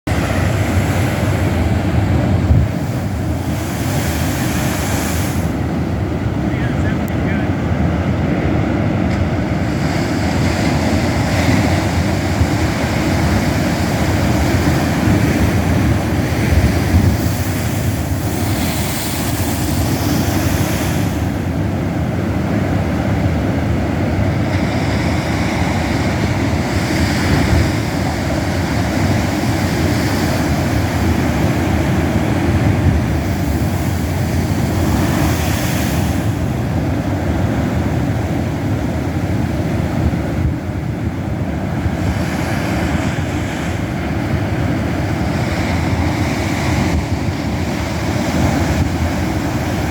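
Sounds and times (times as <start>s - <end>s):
surf crashing against cliffs: 0.1s - 49.9s
wind rumbling on microphone: 0.1s - 49.9s.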